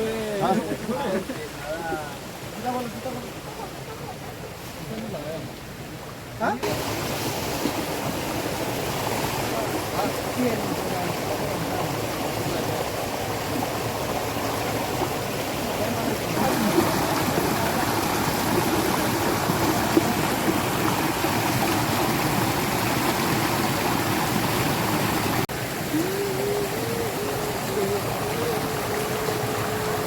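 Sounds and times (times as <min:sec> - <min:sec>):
waterfall stream rushing: 0:00.0 - 0:30.0.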